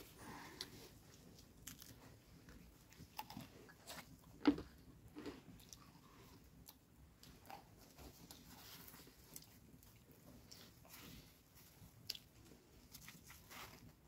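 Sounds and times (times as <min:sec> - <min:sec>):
child chewing crusty bread: 0:00.0 - 0:14.0.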